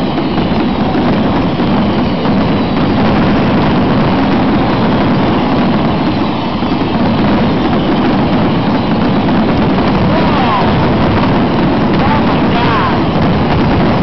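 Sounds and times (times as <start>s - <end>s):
fireworks rumbling roar: 0.0s - 14.0s.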